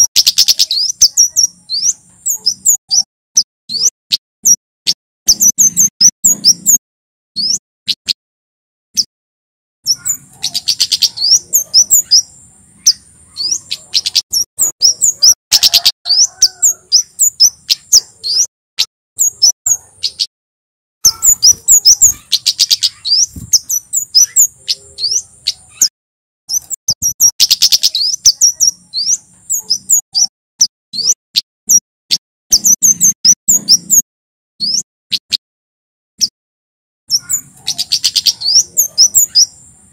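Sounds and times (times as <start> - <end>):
bird singing high chips: 0.0 - 6.8, 7.4 - 8.2, 9.8 - 20.3, 21.0 - 25.9, 26.5 - 34.0, 34.6 - 35.4, 37.1 - 39.9
high thin bird trill: 0.0 - 6.8, 7.4 - 8.2, 9.8 - 20.3, 21.0 - 25.9, 26.5 - 34.0, 34.6 - 35.4, 37.1 - 39.9.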